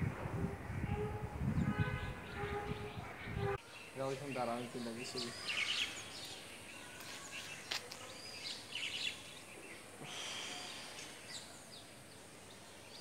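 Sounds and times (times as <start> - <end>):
outdoor background noise: 0.0 - 13.0
birds chirping: 0.6 - 13.0.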